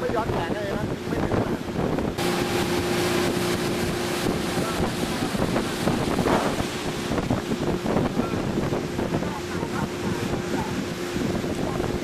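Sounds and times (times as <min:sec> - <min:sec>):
boat engine hum: 0:00.0 - 0:12.0
water rushing past: 0:00.0 - 0:12.0
wind buffeting microphone: 0:00.0 - 0:12.0.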